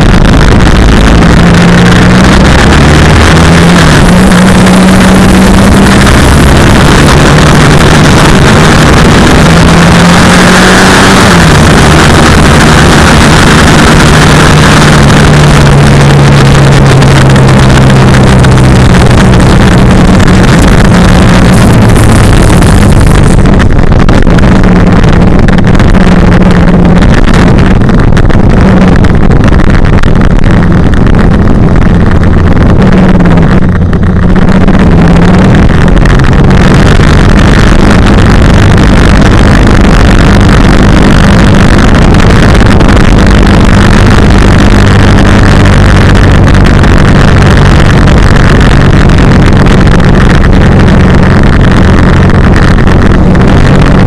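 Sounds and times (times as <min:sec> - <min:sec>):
engine revving and shifting: 0:00.0 - 0:54.0.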